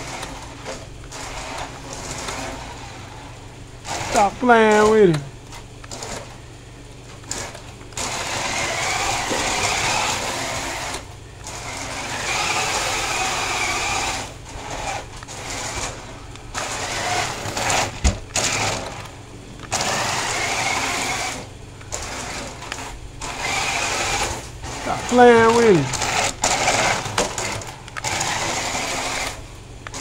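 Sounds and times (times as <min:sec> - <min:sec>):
rc car motor whining: 0:00.0 - 0:06.4, 0:07.2 - 0:30.0.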